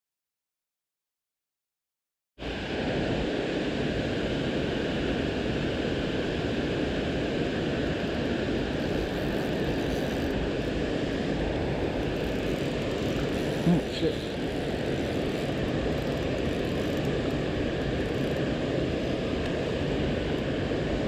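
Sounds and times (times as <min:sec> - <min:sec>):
steady rushing outdoor noise: 0:02.4 - 0:21.0.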